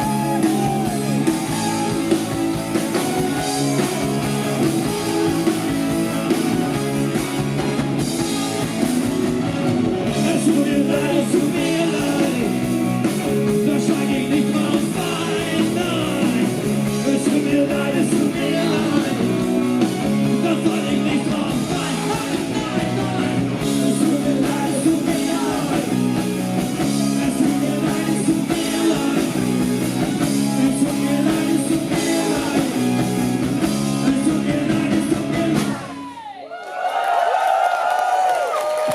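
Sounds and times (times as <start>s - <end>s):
drum kit: 0.0s - 36.2s
electric guitar: 0.0s - 36.2s
live rock band playing: 0.0s - 36.2s.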